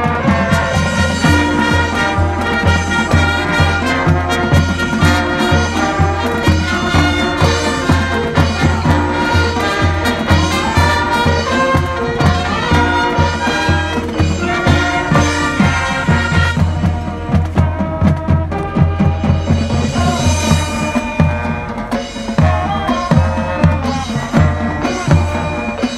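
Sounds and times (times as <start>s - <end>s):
marching band brass: 0.0s - 25.9s.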